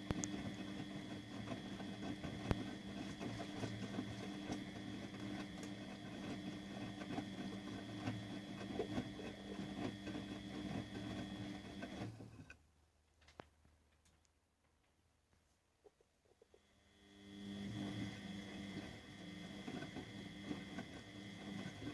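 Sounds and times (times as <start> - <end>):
washing machine motor humming: 0.0 - 12.6, 16.4 - 21.9.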